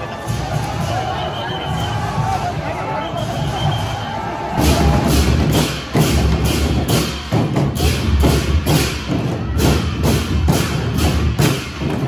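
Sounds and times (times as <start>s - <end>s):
drum and cymbal rhythm: 0.0s - 12.0s.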